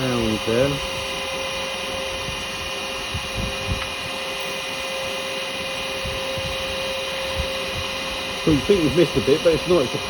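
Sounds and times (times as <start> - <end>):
cutter working spinning wood: 0.0 - 10.0
wood lathe motor hum: 0.0 - 10.0.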